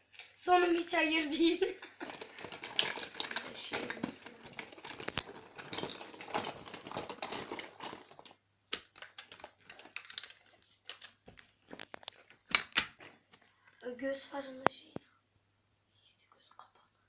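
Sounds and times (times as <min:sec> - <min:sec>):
makeup items rustling and clicking: 0:00.0 - 0:13.9.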